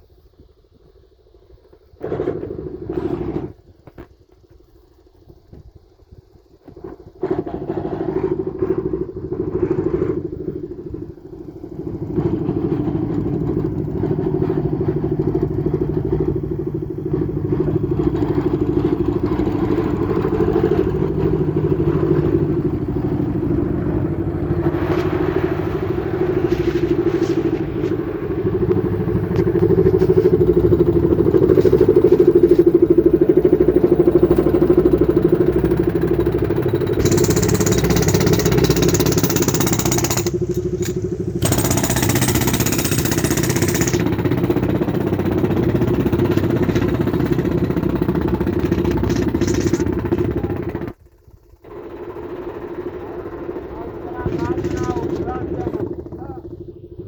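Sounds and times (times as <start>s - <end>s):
clatter: 6.4s - 57.0s
engine running: 6.4s - 57.0s.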